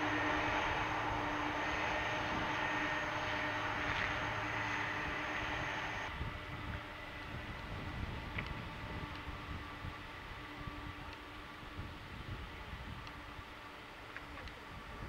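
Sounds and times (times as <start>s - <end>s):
jet engine high whine: 0.0s - 15.0s
jet engines rumbling: 0.0s - 15.0s.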